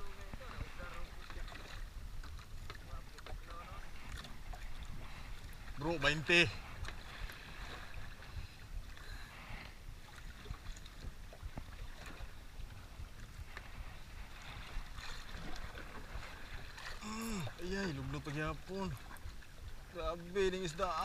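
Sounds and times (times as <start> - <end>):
wind and sea water rushing: 0.0 - 21.0.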